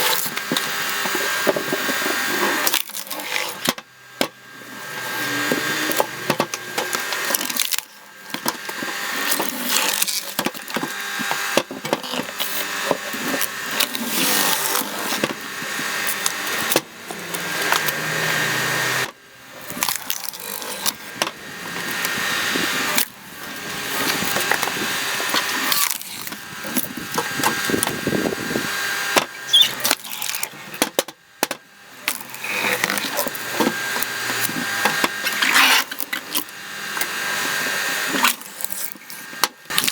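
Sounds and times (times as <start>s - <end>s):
wood cracking and splintering: 0.0s - 3.8s, 5.0s - 16.8s, 17.4s - 23.2s, 23.8s - 28.0s, 29.2s - 31.1s, 32.0s - 36.5s, 37.6s - 39.9s
machine whine: 0.0s - 39.9s.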